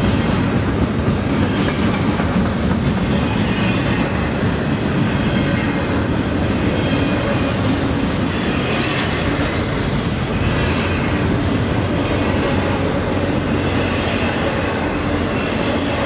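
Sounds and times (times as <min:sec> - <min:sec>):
steel train wheels on rails: 0:00.0 - 0:16.0.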